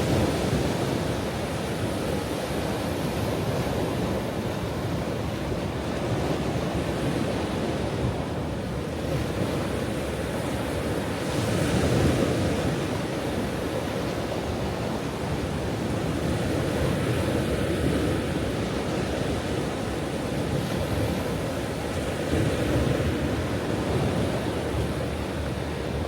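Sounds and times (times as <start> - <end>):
ocean waves breaking on shore: 0.0 - 26.0.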